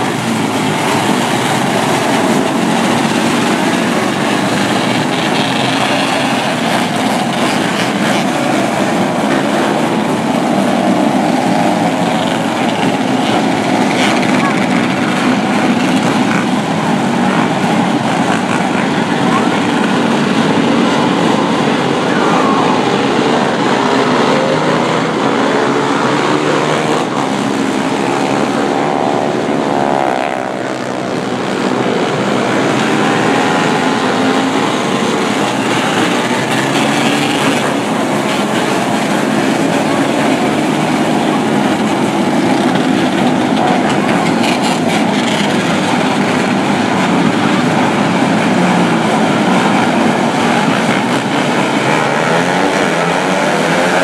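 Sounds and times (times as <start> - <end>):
racing car engines passing: 0.0 - 54.0.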